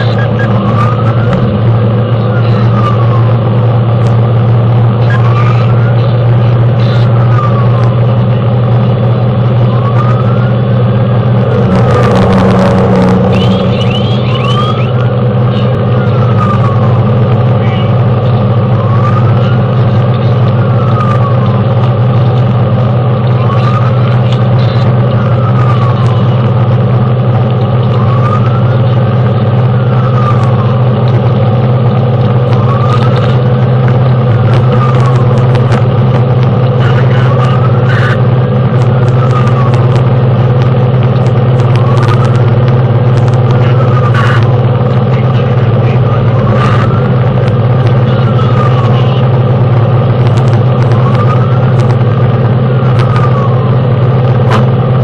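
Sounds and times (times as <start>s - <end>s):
engine drone: 0.0s - 55.0s
fire engine wail siren: 0.0s - 55.0s.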